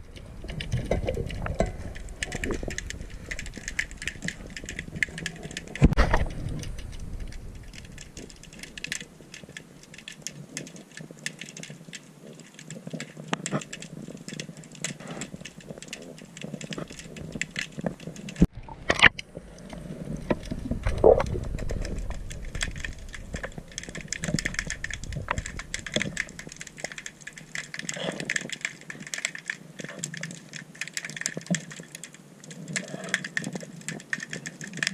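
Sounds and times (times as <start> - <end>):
underwater crackling clicks: 0.0 - 34.9
water swishing: 0.0 - 34.9.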